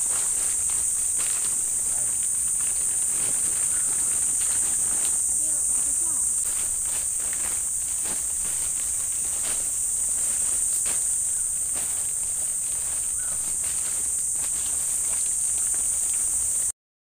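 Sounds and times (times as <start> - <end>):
insects droning: 0.0 - 16.7
leaves rustling: 0.0 - 16.7.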